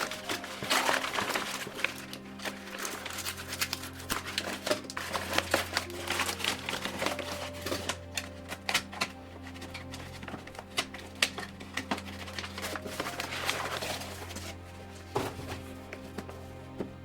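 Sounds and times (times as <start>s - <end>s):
cardboard and plastic crinkling: 0.0s - 17.0s.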